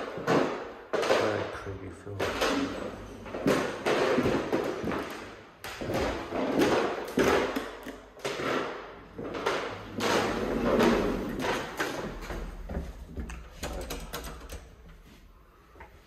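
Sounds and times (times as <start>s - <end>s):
footsteps: 0.0s - 13.6s.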